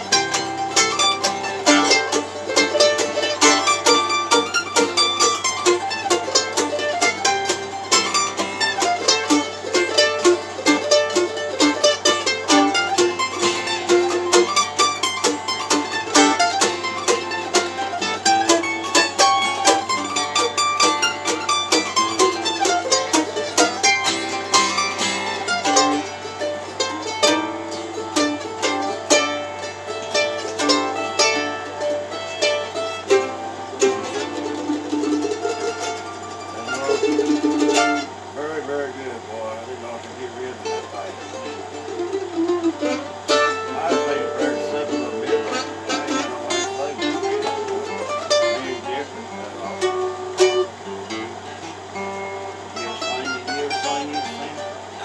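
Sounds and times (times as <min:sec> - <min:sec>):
acoustic guitar: 0:00.0 - 0:55.0
mandolin picking: 0:00.0 - 0:55.0.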